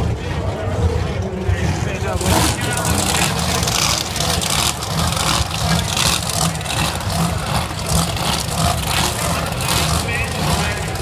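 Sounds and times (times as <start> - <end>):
truck engines rumbling and crackling: 0.0 - 11.0.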